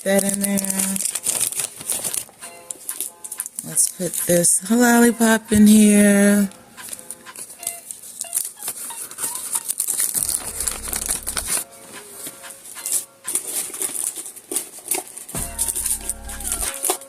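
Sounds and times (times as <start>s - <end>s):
small items clicking and rattling: 0.0s - 5.9s, 6.8s - 17.0s
plastic wrappers crinkling: 0.0s - 17.0s.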